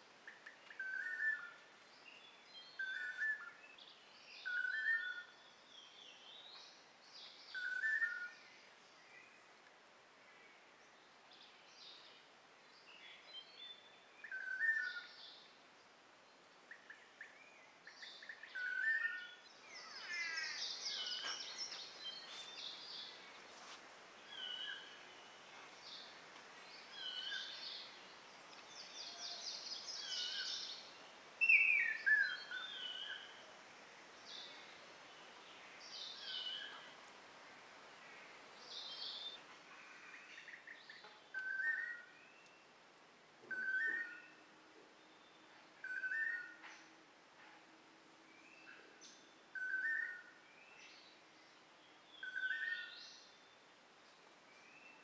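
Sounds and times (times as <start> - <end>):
birds chirping and trilling: 0.3 - 9.4, 12.8 - 15.6, 16.7 - 33.5, 34.1 - 37.0, 37.6 - 42.8, 43.5 - 47.6, 48.3 - 55.0.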